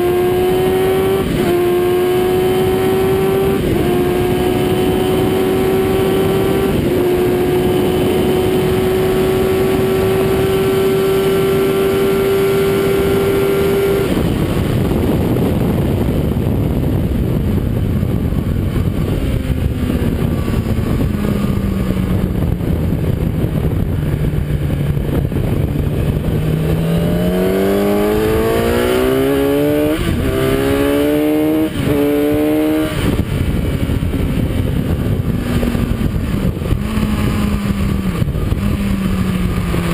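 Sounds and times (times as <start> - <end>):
loud wind noise: 0.0 - 39.9
motorcycle engine revving: 0.0 - 39.9.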